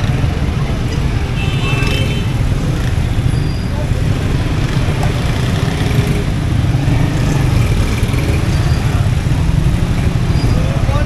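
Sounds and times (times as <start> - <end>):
slow traffic engines rumbling: 0.0 - 11.0.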